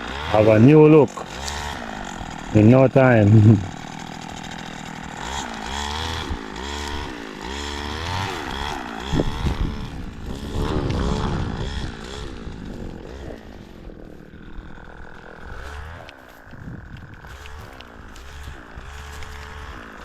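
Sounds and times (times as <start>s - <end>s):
small petrol engine revving: 0.0s - 20.0s.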